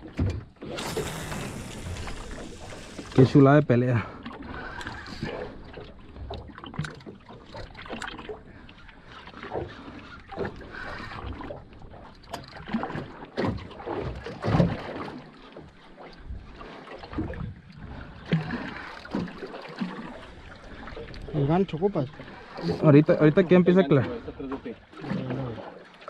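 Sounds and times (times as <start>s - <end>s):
water lapping against boat hull: 0.0s - 26.0s.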